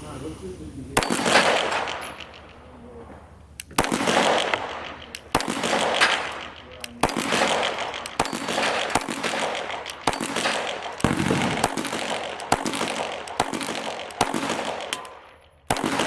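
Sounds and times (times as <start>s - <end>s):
gunshots with rolling echo: 1.0s - 16.0s.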